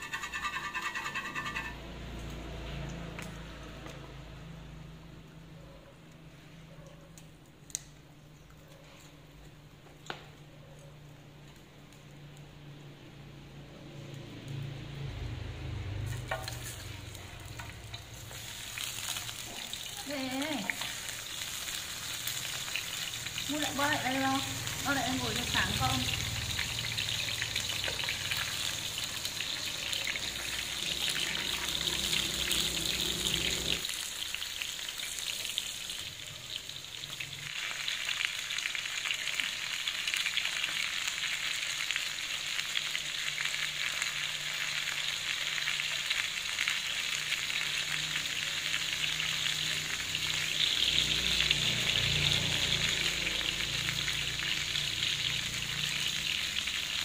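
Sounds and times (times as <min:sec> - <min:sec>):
slices frying in hot oil: 0:00.0 - 0:05.2, 0:11.4 - 0:57.0.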